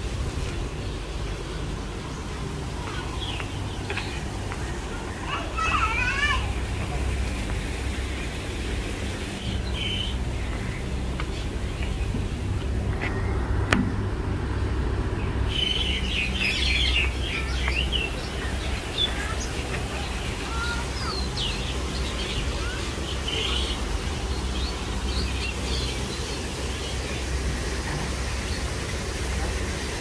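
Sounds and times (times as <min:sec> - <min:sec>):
low steady rumble: 0:00.0 - 0:30.0
small birds chirping: 0:00.5 - 0:13.6, 0:14.4 - 0:30.0.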